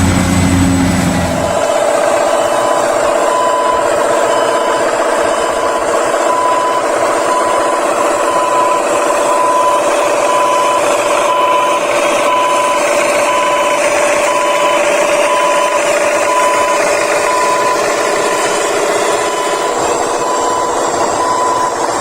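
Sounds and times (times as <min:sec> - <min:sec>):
electric motors and gearboxes whining: 0:00.0 - 0:22.0
short beeps: 0:02.3 - 0:18.6, 0:19.2 - 0:22.0.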